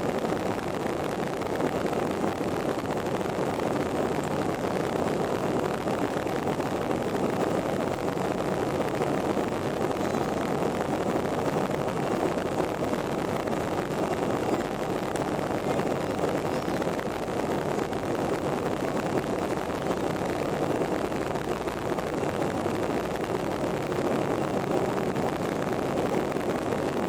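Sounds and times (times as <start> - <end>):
airplane engines rumbling: 0.0 - 27.0.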